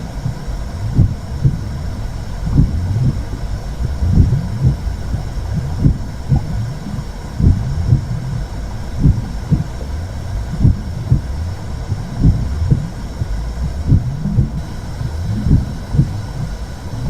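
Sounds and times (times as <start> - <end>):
low whooshing rumble: 0.0 - 17.0
muffled heartbeat thumps: 0.0 - 17.0.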